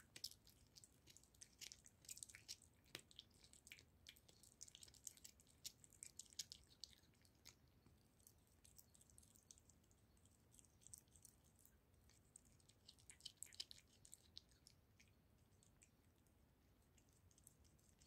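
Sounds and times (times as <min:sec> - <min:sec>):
cat chewing on bone: 0:00.0 - 0:18.0.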